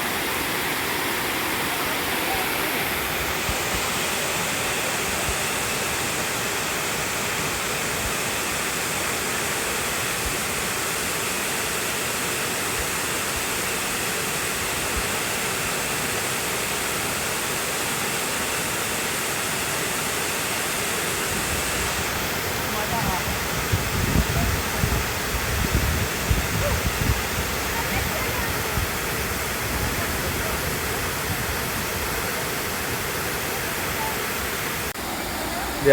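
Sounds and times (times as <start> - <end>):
waterfall pouring: 0.0 - 35.9.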